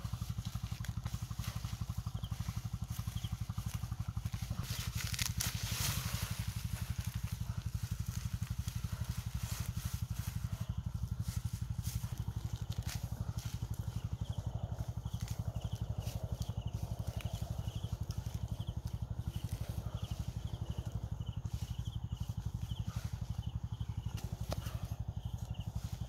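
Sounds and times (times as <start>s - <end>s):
leafy plants rustling: 0.0s - 26.0s
small engine chugging: 0.0s - 26.0s.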